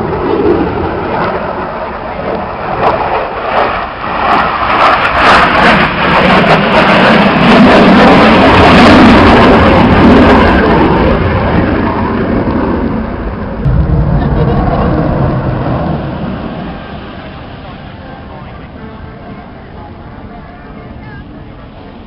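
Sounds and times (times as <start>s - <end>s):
jet roaring past: 0.0s - 22.0s.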